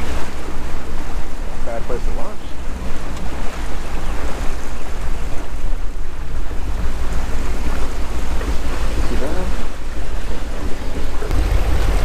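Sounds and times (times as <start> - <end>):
boat engine rumble: 0.0 - 12.0
wind buffeting microphone: 0.0 - 12.0.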